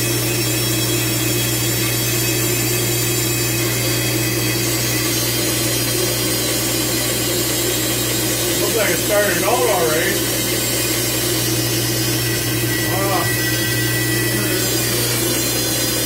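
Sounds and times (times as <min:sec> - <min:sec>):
machine drone with low hum: 0:00.0 - 0:16.0.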